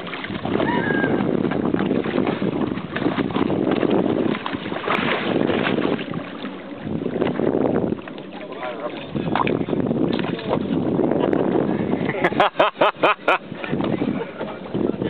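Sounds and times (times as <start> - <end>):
water splashing: 0.0 - 15.0
wind on microphone: 0.0 - 15.0.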